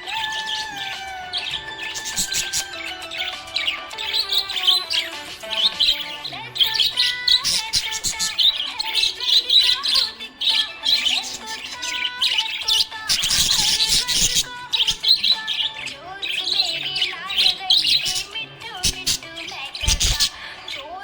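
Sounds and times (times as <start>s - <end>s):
budgerigar chirping and warbling: 0.0s - 21.0s.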